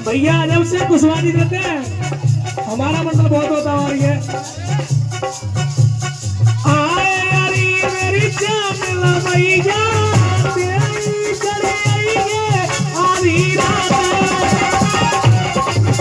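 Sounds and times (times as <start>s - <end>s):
man singing into microphone: 0.0s - 5.2s, 6.6s - 16.0s
rattling shaker: 0.0s - 16.0s
steady percussion beat: 0.0s - 16.0s.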